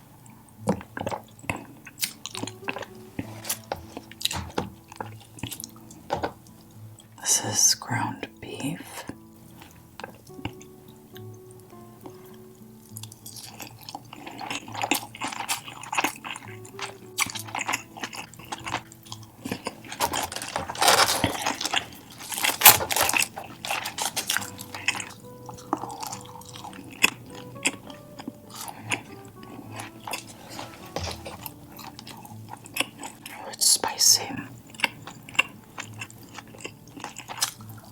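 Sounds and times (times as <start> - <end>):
food chewing and crunching: 0.0 - 37.9
soft background music: 0.0 - 37.9.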